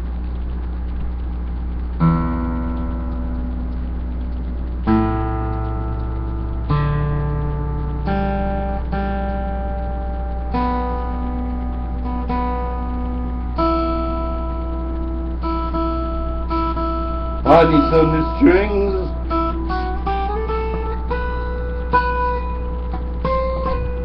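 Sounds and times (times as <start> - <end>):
acoustic guitar chords ringing: 0.0 - 24.0.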